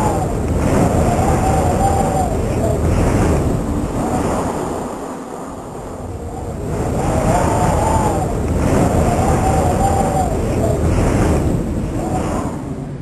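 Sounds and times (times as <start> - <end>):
howling blizzard wind: 0.0 - 13.0.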